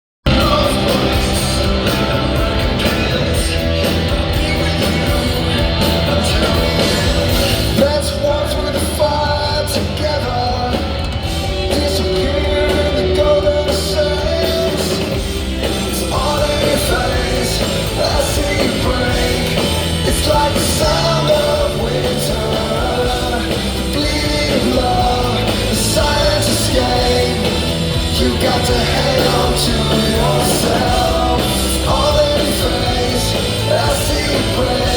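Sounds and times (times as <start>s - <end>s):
rock music: 0.2s - 34.9s.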